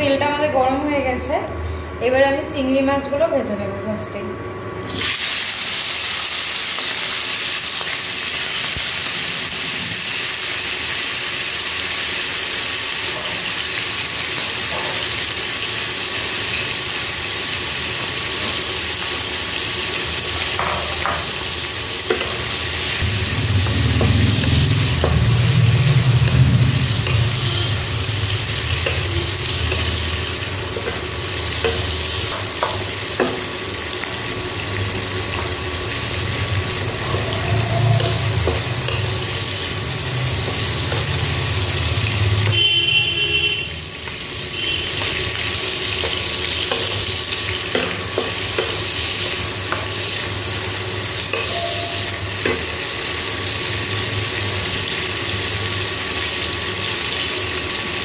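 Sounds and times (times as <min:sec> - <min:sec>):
prawns sizzling in hot oil: 0:04.8 - 0:58.0.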